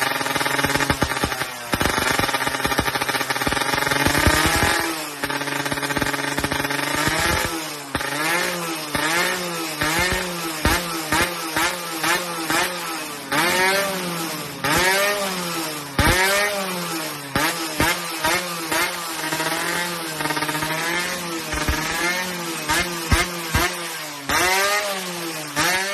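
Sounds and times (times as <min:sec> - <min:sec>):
two-stroke engine revving: 0:00.0 - 0:25.9.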